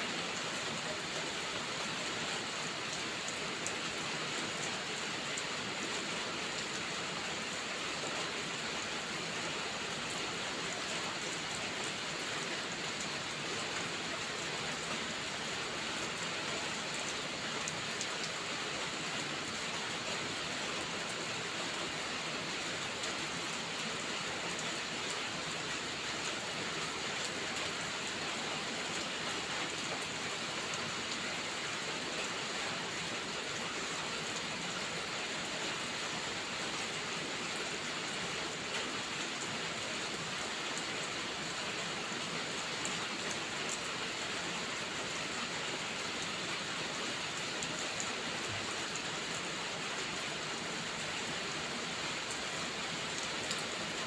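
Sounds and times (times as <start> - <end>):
heavy rain falling: 0.1 - 54.0.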